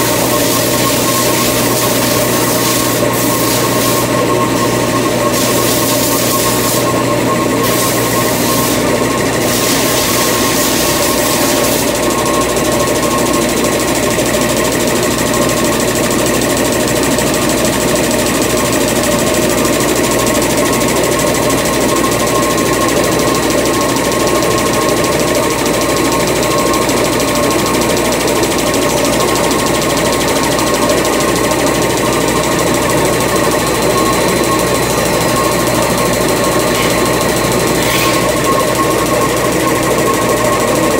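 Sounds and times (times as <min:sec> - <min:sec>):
machinery clattering and whining: 0:00.0 - 0:40.9.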